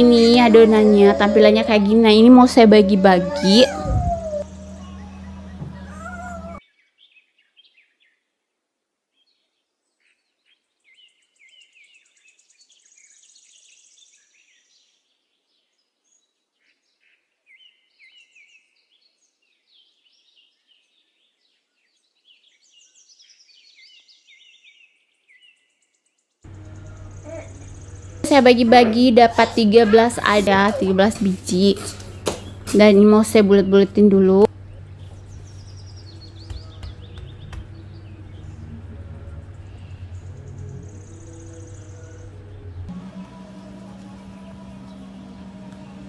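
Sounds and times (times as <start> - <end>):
faint bird chirps and trills: 0.2 - 8.2, 9.2 - 42.8.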